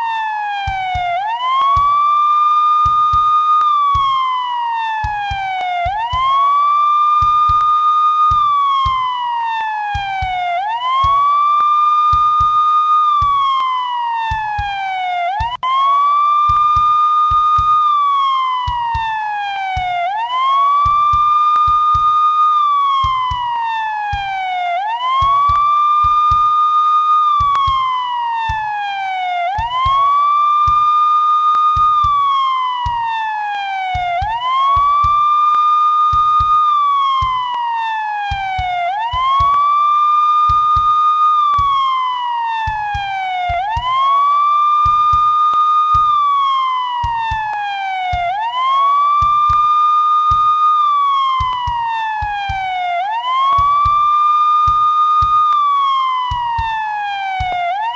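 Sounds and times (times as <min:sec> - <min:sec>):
police siren wailing: 0:00.0 - 0:57.9.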